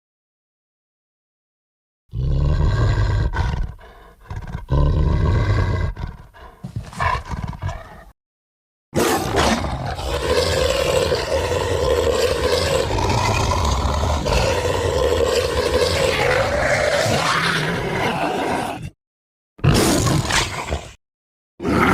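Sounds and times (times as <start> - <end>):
beast growling and snarling: 2.1 - 8.2, 9.0 - 19.0, 19.6 - 21.0, 21.6 - 21.9.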